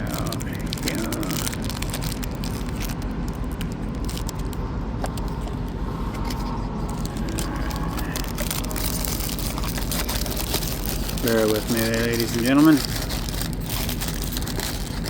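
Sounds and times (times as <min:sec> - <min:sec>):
cards and packs handled: 0:00.0 - 0:15.0
diesel trucks idling: 0:00.0 - 0:15.0.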